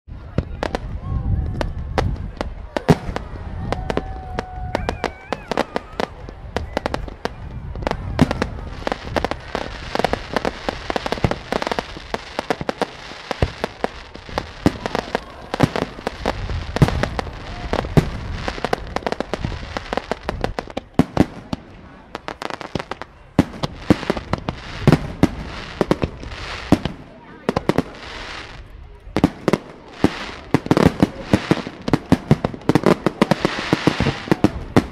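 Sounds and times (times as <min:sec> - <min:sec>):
fireworks bangs and crackles: 0:00.1 - 0:34.9.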